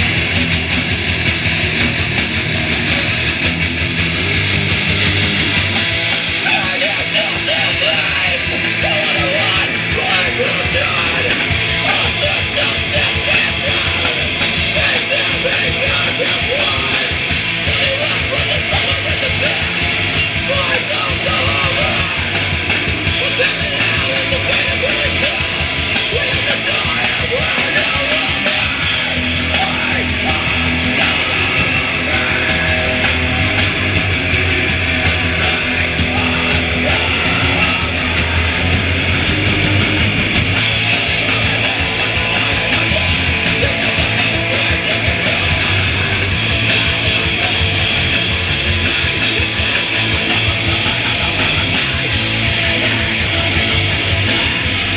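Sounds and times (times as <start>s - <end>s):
rock band playing: 0.0s - 54.9s
person singing and shouting: 6.2s - 39.6s, 40.6s - 54.9s.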